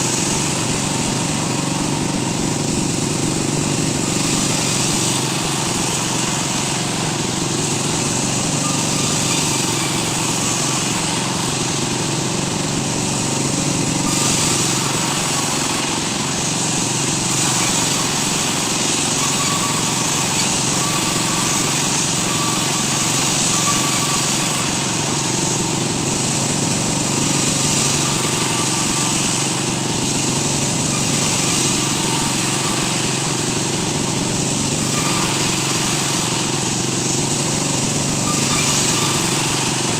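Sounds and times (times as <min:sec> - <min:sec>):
power tool harsh whir: 0:00.0 - 0:39.9.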